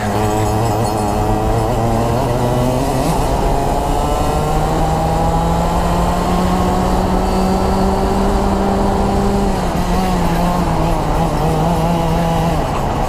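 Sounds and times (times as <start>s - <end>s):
kart engine at full throttle: 0.0s - 13.0s.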